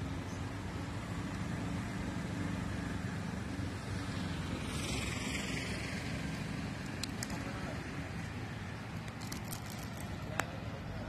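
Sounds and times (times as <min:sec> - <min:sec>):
city traffic rumble: 0:00.0 - 0:11.0
passing vehicle hiss: 0:00.0 - 0:11.0.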